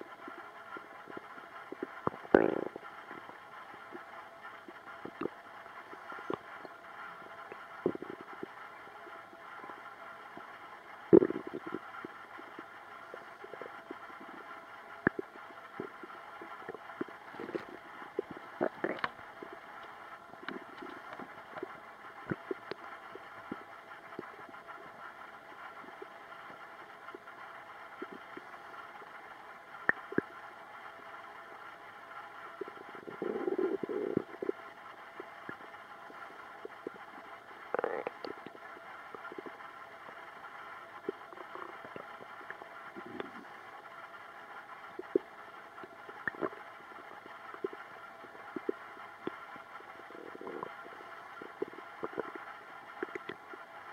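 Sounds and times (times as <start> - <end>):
stomach gurgling: 0.0 - 30.3, 32.4 - 53.7
faint steady hum: 0.0 - 53.9.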